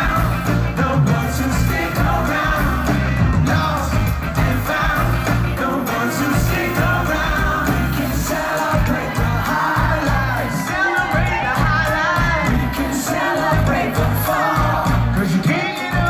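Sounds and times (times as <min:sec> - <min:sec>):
live pop-rock band: 0:00.0 - 0:16.0
people singing into microphones: 0:00.0 - 0:16.0.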